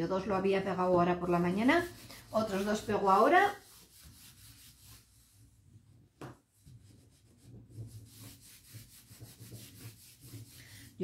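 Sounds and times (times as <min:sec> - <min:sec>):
cloth rubbing over paper: 0:01.2 - 0:05.9, 0:06.5 - 0:11.0.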